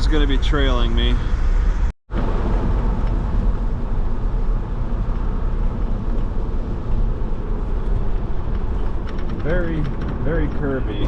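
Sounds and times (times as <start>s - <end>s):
car driving road noise: 0.0s - 11.0s.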